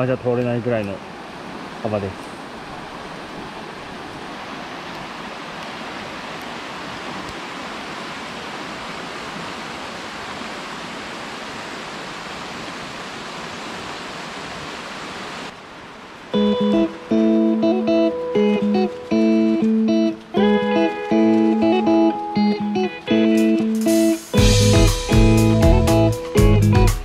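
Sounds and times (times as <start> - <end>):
rain and running water: 0.0 - 27.0.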